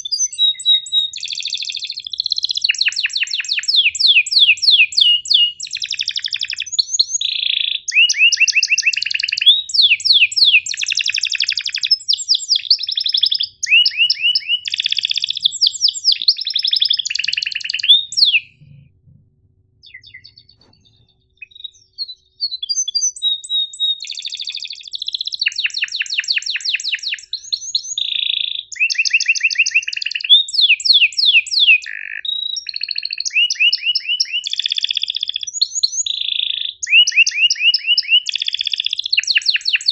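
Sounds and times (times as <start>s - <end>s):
canary singing trills and chirps: 0.0s - 18.8s, 19.8s - 39.9s.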